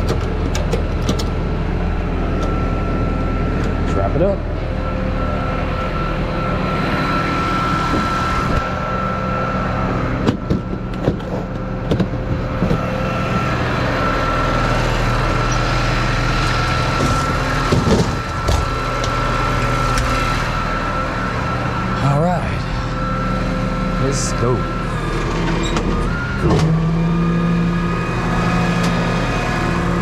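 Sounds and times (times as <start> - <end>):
truck engine idling: 0.0 - 30.0
high whine: 1.5 - 30.0.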